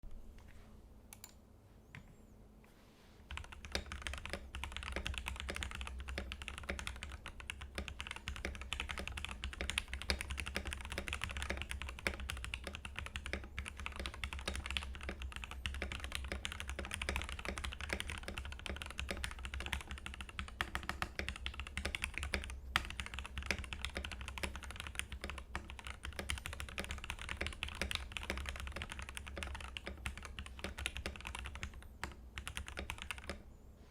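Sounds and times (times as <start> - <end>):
mechanical keyboard typing: 3.3 - 33.4.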